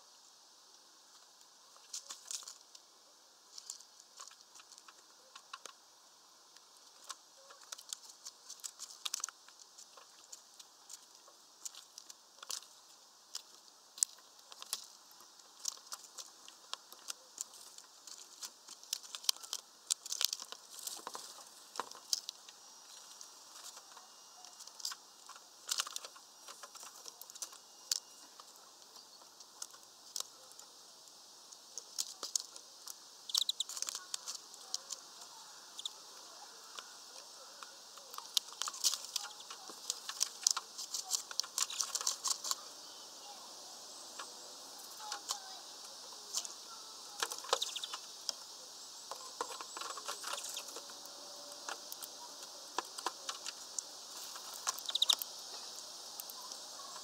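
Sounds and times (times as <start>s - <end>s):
birds pecking at seed: 0.6s - 57.0s.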